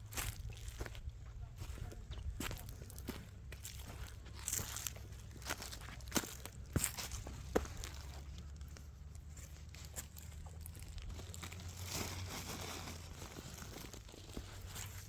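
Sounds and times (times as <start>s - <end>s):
dry leaves rustling and crackling: 2.4s - 15.0s.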